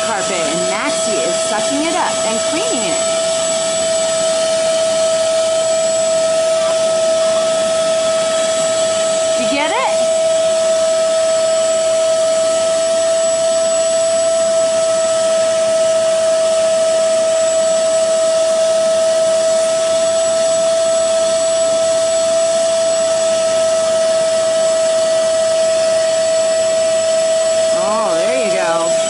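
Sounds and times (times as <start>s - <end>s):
carpet cleaner suction motor whining: 0.0s - 29.0s.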